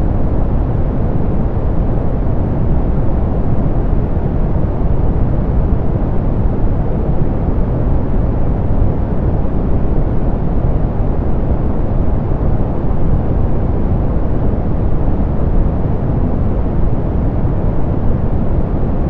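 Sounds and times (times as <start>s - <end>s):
deep pink noise hiss: 0.0s - 19.0s.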